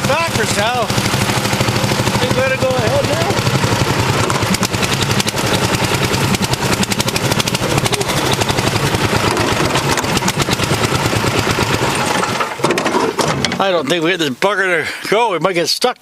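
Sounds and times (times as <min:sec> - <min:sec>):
engine exhaust pulsing: 0:00.0 - 0:14.3.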